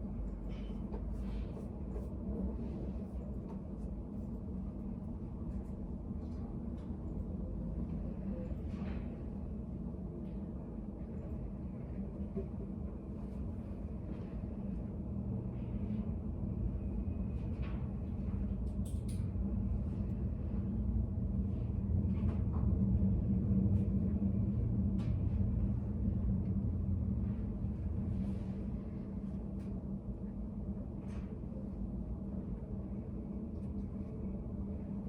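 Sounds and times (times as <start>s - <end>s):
low room rumble: 0.0s - 35.0s.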